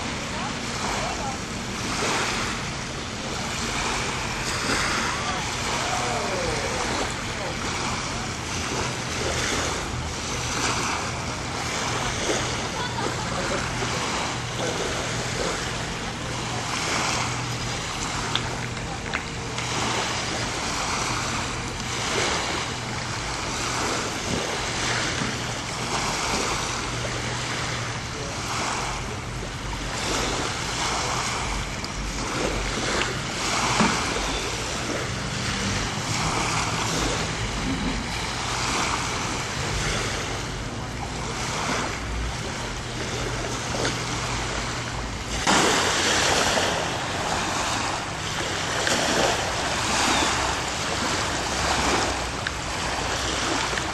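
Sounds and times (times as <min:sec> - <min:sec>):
waves lapping on shore: 0:00.0 - 0:53.9.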